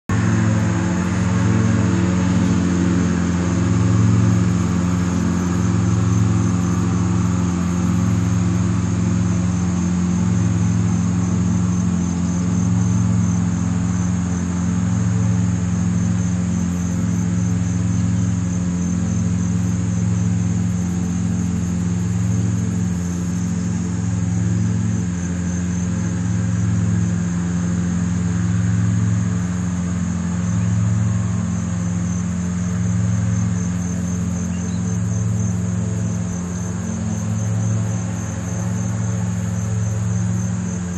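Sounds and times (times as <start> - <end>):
crickets trilling: 0.1 - 40.9
low mechanical hum: 0.1 - 40.9.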